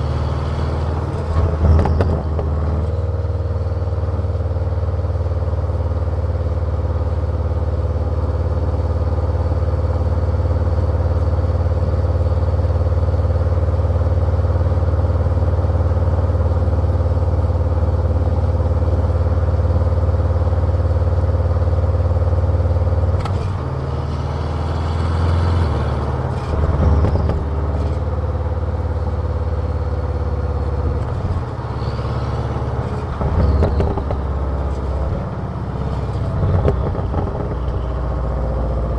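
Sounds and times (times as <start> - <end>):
car exhaust engine drone: 0.0 - 38.9.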